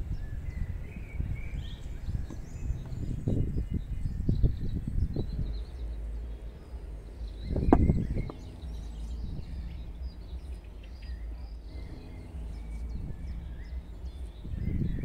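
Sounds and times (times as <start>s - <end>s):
faint bird chirps: 0.0s - 15.0s
steady low rumble: 0.0s - 15.0s.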